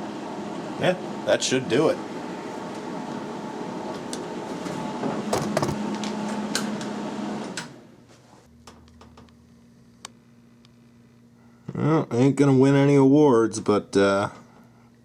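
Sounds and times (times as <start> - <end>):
cooling fan humming: 0.0 - 15.0.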